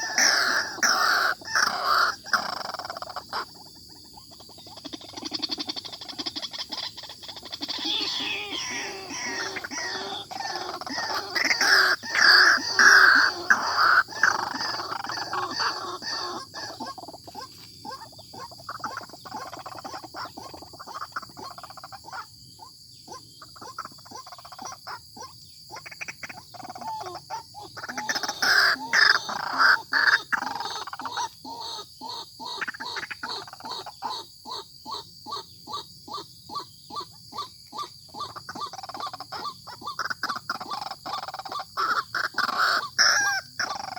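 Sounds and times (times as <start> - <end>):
waterhen calling: 0.0 - 3.5, 4.8 - 22.2, 26.0 - 35.8, 36.5 - 43.9.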